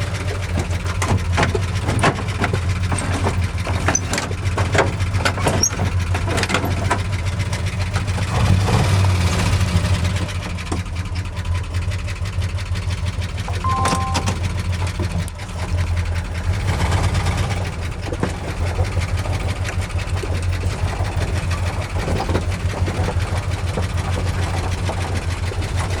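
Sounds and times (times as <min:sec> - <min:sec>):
truck engine idling: 0:00.0 - 0:08.3, 0:09.9 - 0:26.0.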